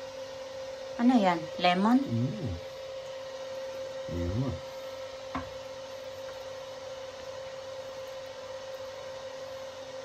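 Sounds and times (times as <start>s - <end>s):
electric fan whirring: 0.0s - 10.0s.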